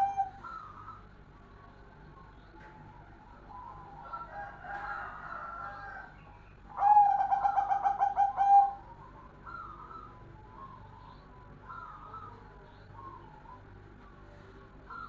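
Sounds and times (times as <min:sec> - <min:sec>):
dove cooing: 0:00.0 - 0:06.1, 0:06.7 - 0:15.0.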